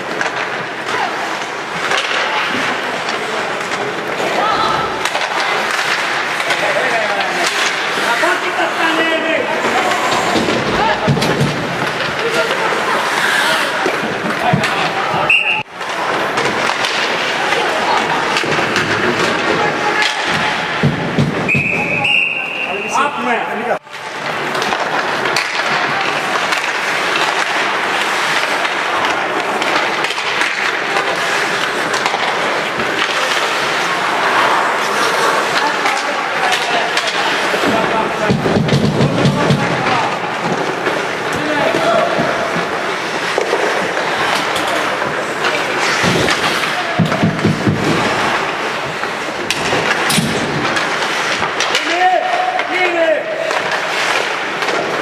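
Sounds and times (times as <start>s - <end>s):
hockey sticks clacking on puck: 0.0s - 22.2s, 22.9s - 55.0s
skates scraping ice: 0.0s - 55.0s.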